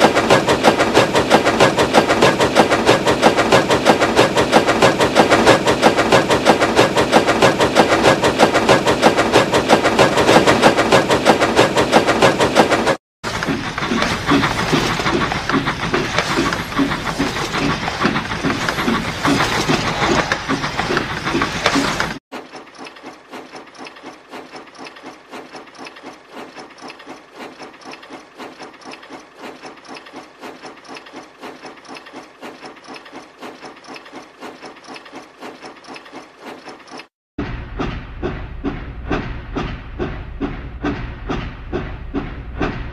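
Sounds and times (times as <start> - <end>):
steam locomotive chuffing: 0.0 - 42.9.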